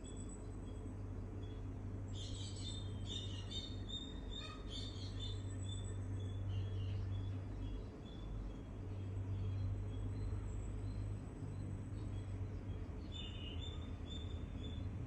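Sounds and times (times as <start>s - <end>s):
small birds twittering: 0.0s - 15.0s
steady low hum: 0.0s - 15.0s.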